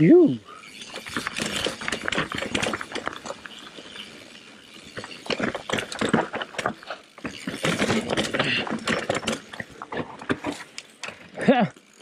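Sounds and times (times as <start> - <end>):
bike chain and frame rattling: 0.0 - 12.0
bike tyres crunching over rock: 0.6 - 12.0.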